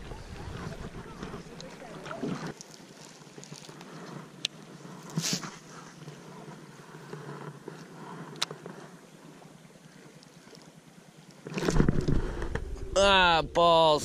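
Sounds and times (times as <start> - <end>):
faint river water: 0.0 - 14.0
wind: 0.0 - 14.0.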